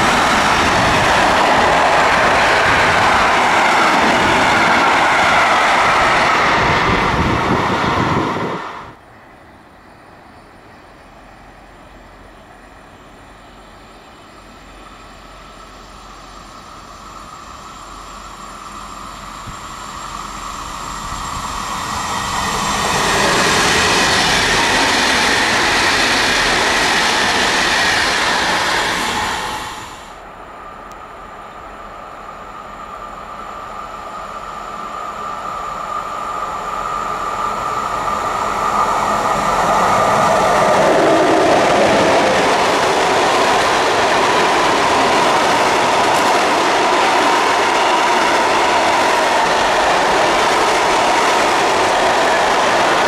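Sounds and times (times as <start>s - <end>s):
freight train approaching: 0.0s - 53.0s
passenger train passing: 0.0s - 53.0s.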